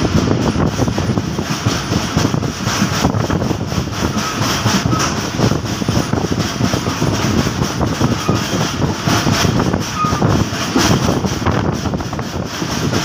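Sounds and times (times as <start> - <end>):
train rumbling on track: 0.0 - 13.0
wheels and carriage rattling: 0.0 - 13.0.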